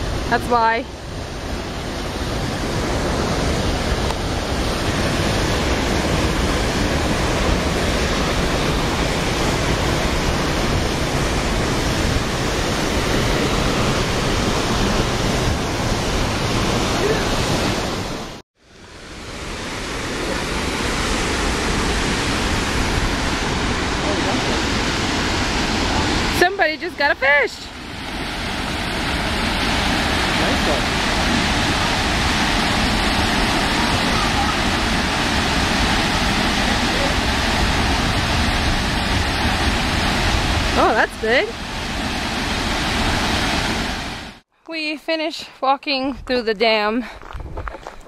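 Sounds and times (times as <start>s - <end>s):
water rushing at a dam: 0.0s - 44.4s.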